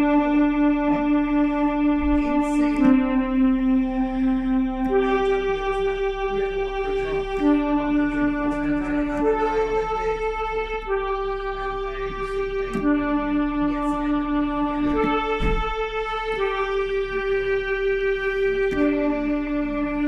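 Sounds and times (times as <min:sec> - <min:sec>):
electronic keyboard slow melody: 0:00.0 - 0:20.0.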